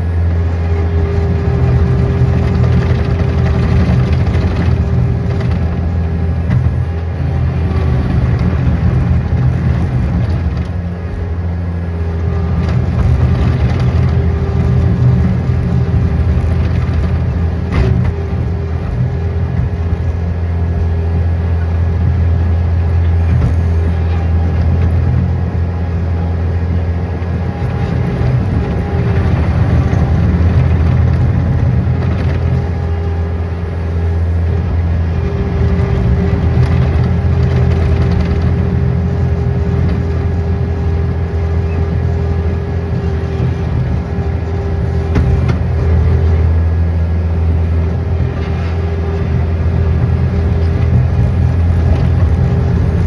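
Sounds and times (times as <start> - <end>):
engine low hum: 0.0 - 53.0.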